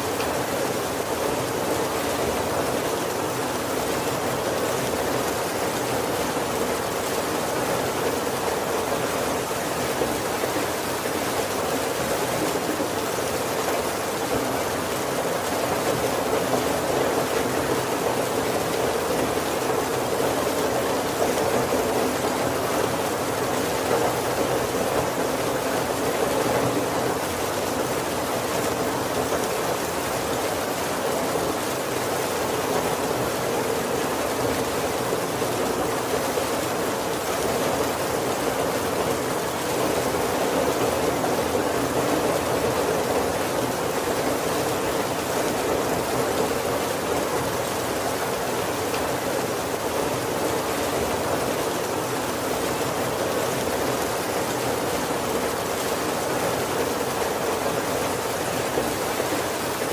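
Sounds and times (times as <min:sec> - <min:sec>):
heavy rain on roof and windows: 0:00.0 - 0:59.9.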